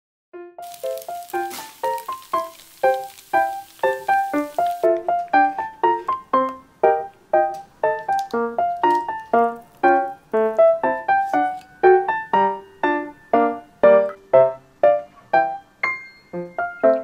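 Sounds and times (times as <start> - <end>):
light piano melody: 0.4 - 17.0.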